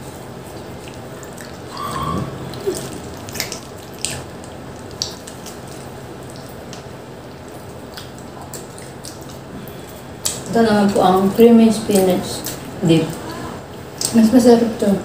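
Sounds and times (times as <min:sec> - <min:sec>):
wet chewing and smacking: 0:00.0 - 0:14.2.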